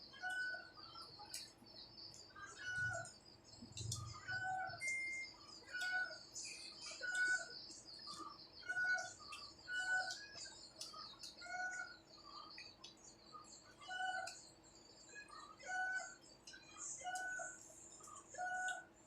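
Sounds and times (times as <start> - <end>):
high bird chirps: 0.1 - 18.9.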